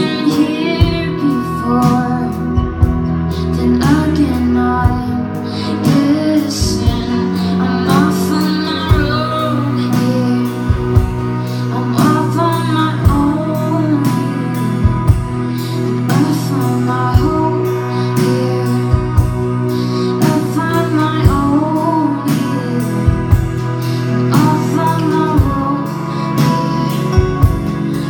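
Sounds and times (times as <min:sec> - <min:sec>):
woman singing: 0:00.0 - 0:28.0.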